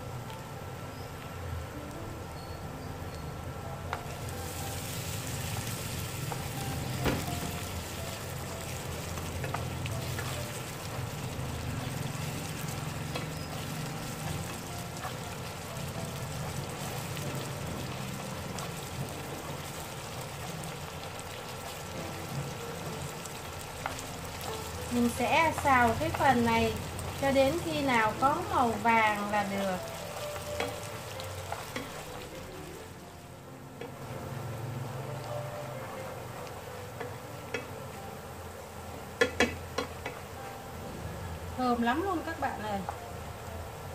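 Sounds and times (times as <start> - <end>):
garlic sizzling in hot oil: 0.0 - 43.9.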